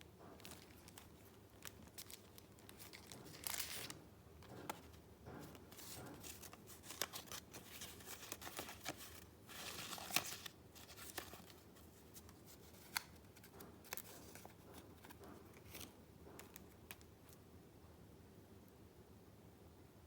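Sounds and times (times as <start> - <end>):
paper rustling and crinkling: 0.3 - 17.1.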